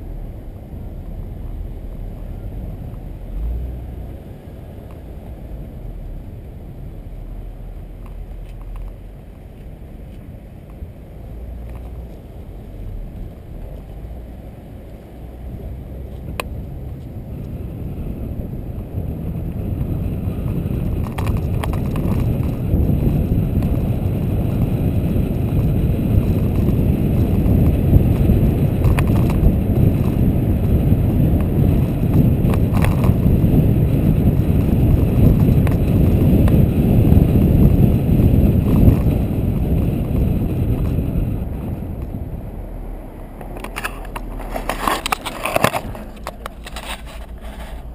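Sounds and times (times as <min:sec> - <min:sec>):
road and wind noise: 0:00.0 - 0:47.9.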